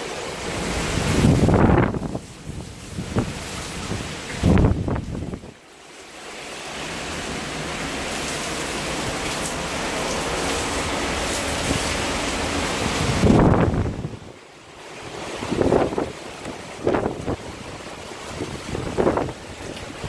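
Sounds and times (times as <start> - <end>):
hurricane wind and heavy rain: 0.0 - 20.0.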